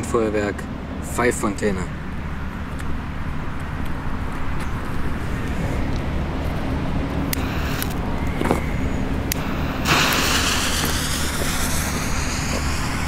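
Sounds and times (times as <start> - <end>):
distant traffic: 0.0 - 13.0
wind: 0.0 - 13.0.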